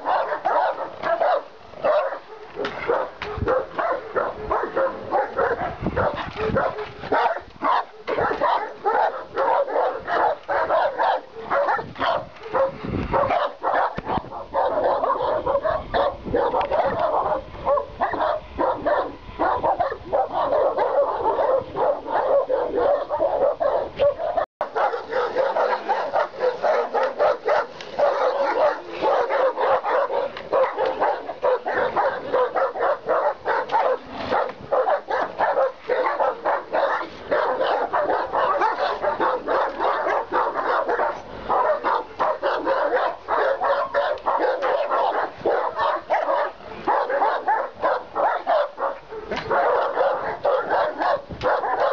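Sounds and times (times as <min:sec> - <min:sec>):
dogs barking rapidly: 0:00.0 - 0:51.9.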